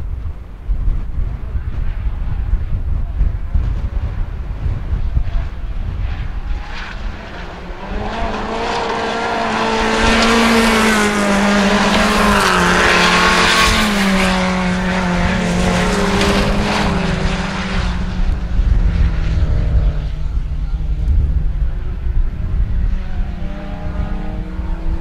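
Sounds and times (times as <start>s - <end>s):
wind rumbling on microphone: 0.0s - 25.0s
race car engine running hard: 1.8s - 25.0s.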